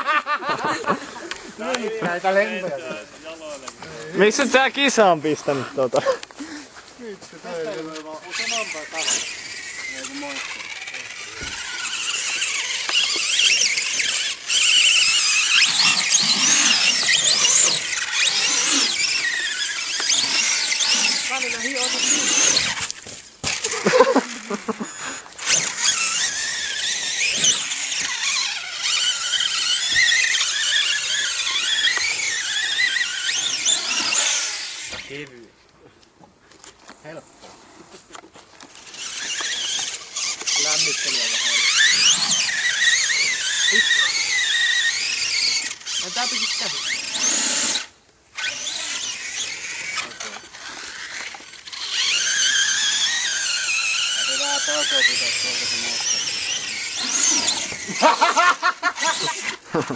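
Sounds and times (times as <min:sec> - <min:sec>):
model car motor whining: 0:07.4 - 0:35.4, 0:37.1 - 0:59.8.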